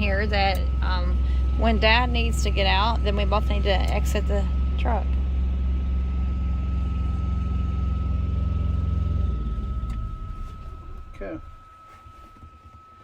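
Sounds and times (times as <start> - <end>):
engine idling low rumble: 0.0 - 13.0
high whine: 0.0 - 13.0.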